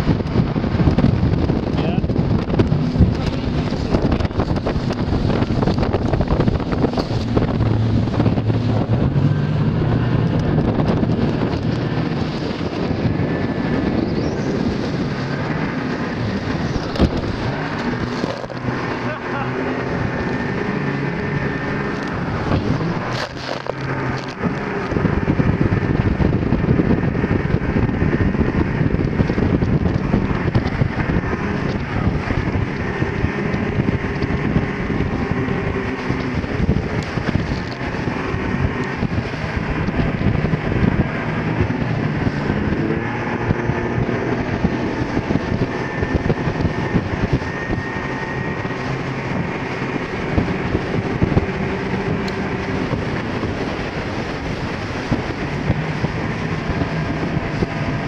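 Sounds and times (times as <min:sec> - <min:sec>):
outboard engines at speed: 0:00.0 - 0:58.0
wind buffeting microphone: 0:00.0 - 0:58.0.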